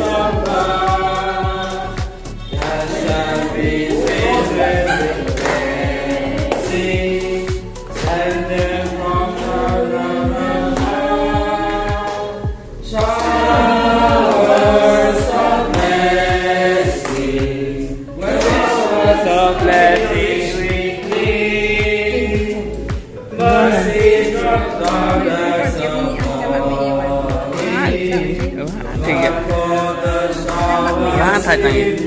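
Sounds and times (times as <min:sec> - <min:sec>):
steady drum beat: 0:00.0 - 0:32.0
voices singing together: 0:00.0 - 0:32.0.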